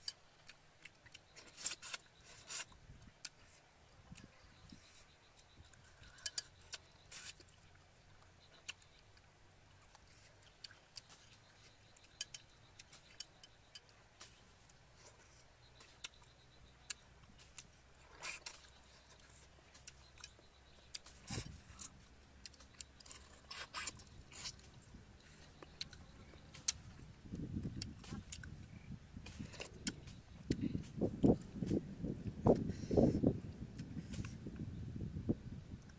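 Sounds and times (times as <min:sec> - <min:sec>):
chewing and lip sounds: 0:00.0 - 0:34.6.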